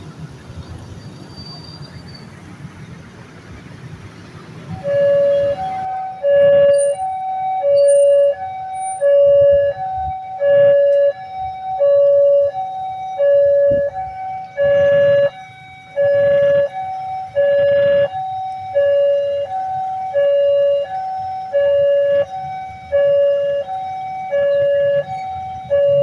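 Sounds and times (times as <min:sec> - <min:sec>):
two-tone crossing alarm: 0:04.7 - 0:26.0.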